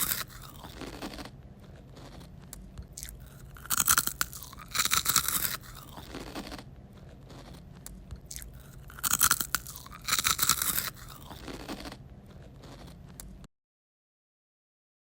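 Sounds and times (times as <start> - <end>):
crackly crunches: 0.0 - 13.5
low steady hum: 0.0 - 13.5.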